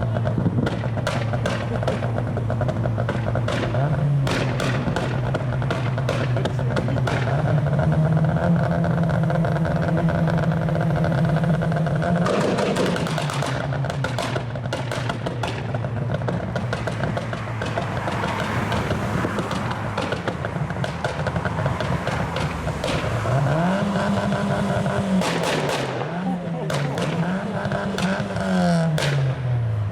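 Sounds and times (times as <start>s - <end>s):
car engine revving: 0.0s - 29.9s
exhaust pops and crackles: 0.0s - 29.9s.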